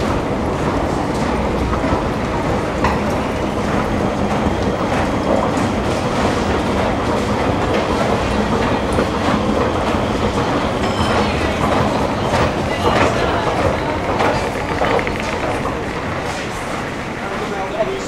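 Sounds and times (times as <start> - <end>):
escalator rumble and clatter: 0.0 - 18.0.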